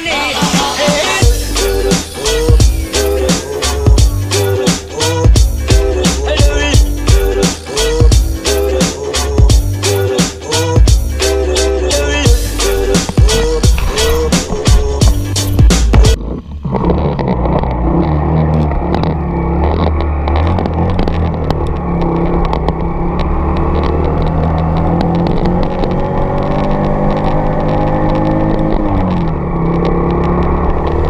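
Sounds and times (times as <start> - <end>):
motorcycle engine running: 0.6 - 11.2, 11.9 - 31.0.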